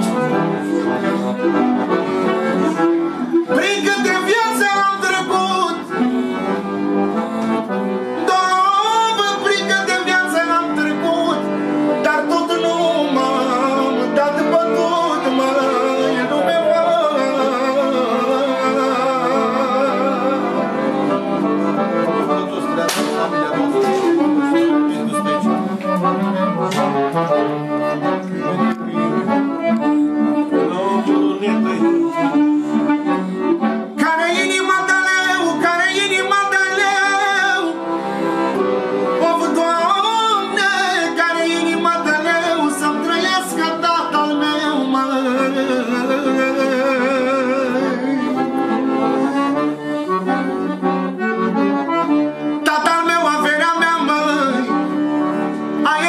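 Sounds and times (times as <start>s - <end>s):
accordion melody: 0.0s - 56.0s.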